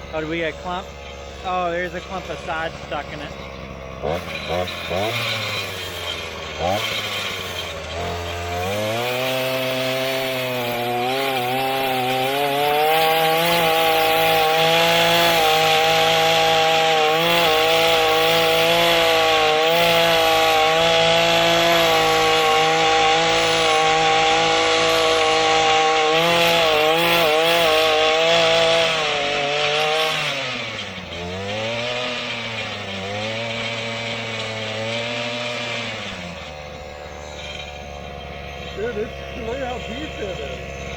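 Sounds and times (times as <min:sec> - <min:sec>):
tiller engine revving: 0:00.0 - 0:40.9.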